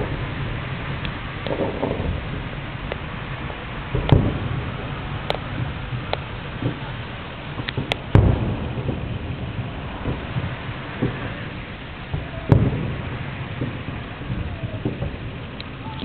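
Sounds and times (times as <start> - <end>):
fireworks booming: 0.0 - 16.0
fireworks cracks: 0.0 - 16.0
steady low rumble: 0.0 - 16.0.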